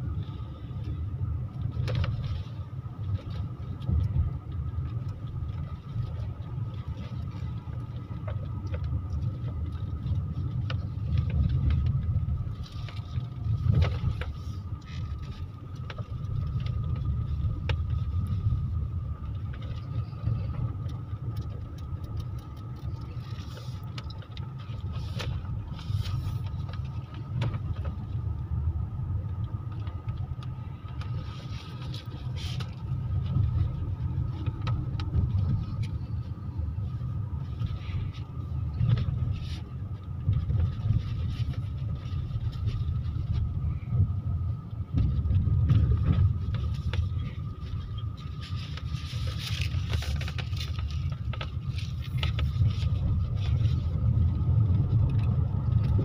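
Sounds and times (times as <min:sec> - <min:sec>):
car cabin road noise: 0:00.0 - 0:56.0
faint steady whine: 0:00.0 - 0:56.0.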